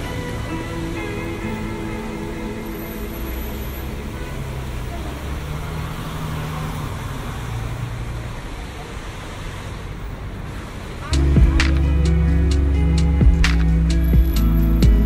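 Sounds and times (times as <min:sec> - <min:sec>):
rain hissing: 0:00.0 - 0:15.0
tyres on wet road: 0:00.0 - 0:15.0
vehicle engines running: 0:00.0 - 0:15.0.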